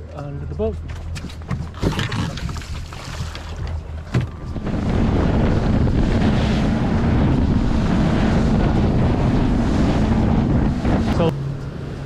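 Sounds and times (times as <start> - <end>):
outboard motors running: 0.0 - 12.0
wind buffeting microphone: 0.4 - 12.0.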